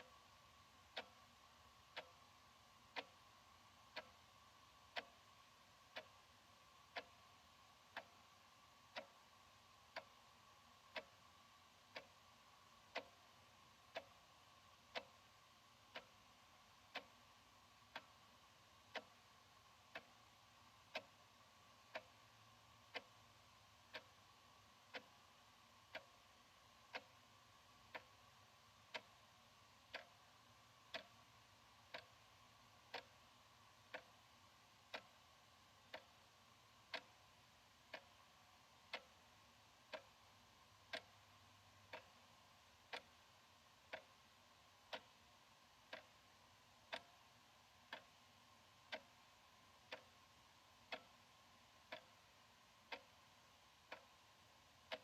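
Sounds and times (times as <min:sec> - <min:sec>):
wall clock ticking: 0:00.0 - 0:55.0.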